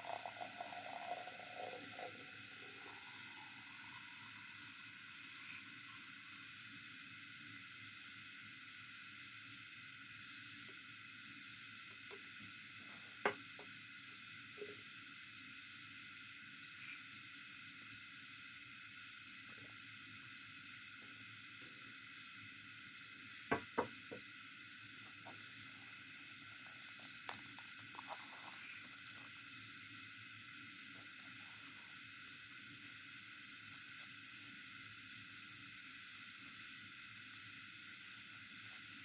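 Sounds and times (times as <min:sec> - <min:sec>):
faint insect chirring: 0:00.0 - 0:39.0.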